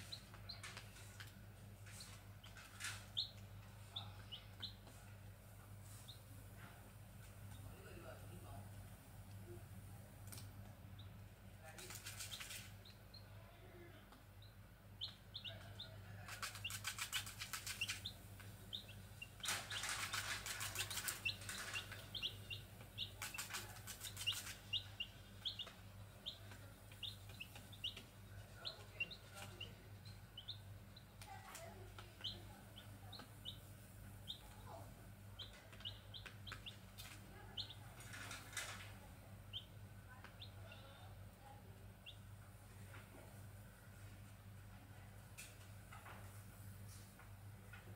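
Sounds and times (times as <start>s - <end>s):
chicks peeping: 0.0s - 8.5s, 10.2s - 43.4s.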